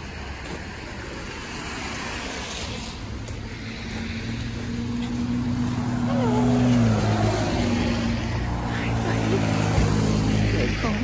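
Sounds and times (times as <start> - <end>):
street noise: 0.0 - 11.0
vehicle engine humming: 0.0 - 11.0.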